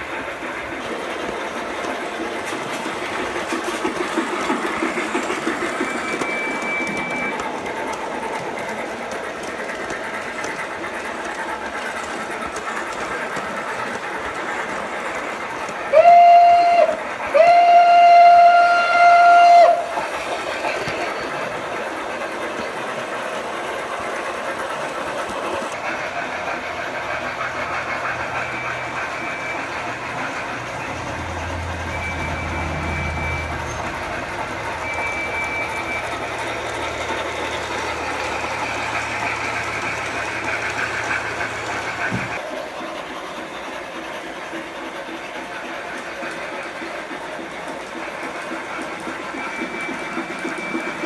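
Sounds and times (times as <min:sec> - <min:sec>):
model train wheels rattling: 0:00.0 - 0:51.0.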